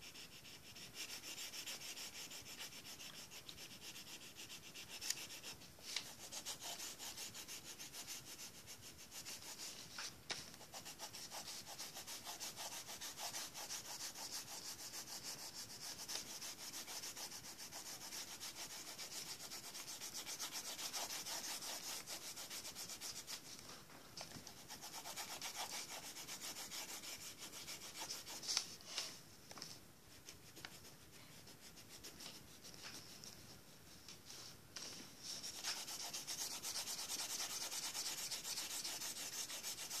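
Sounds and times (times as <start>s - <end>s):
pencil scratching on paper: 0.0s - 10.0s, 10.6s - 23.5s, 24.4s - 28.8s, 30.2s - 33.4s, 35.3s - 40.0s.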